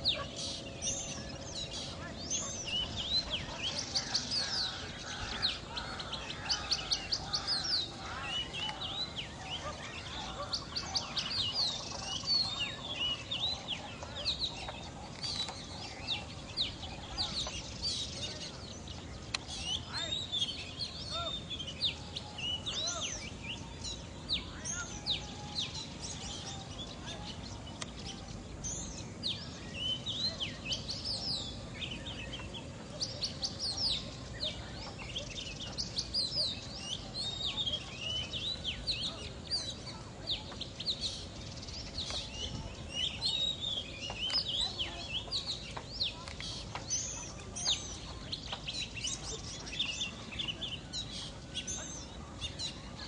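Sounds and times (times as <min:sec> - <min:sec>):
low background noise: 0:00.0 - 0:53.0
small birds chirping: 0:00.0 - 0:53.0.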